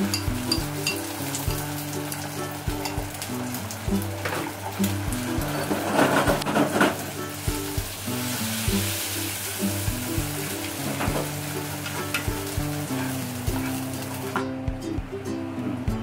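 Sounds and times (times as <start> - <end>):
eggs sizzling in frying pan: 0.0 - 14.6.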